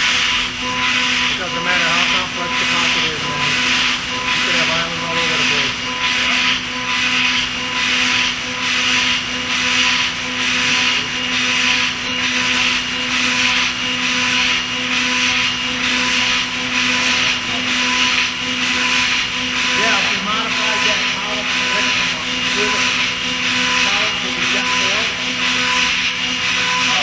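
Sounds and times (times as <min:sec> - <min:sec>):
cnc spindle whine: 0:00.0 - 0:27.0.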